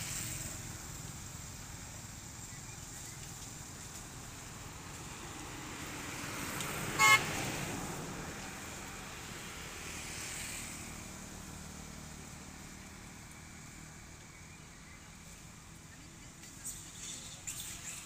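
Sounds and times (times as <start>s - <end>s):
traffic engine hum: 0.0s - 18.0s.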